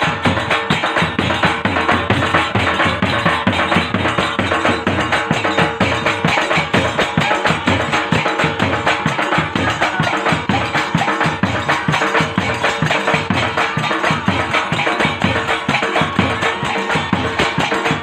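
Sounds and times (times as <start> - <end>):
loud music with drum beat: 0.0 - 18.0.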